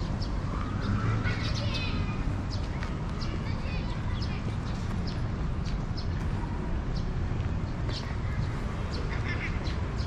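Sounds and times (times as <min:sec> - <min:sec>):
low street rumble: 0:00.0 - 0:10.0.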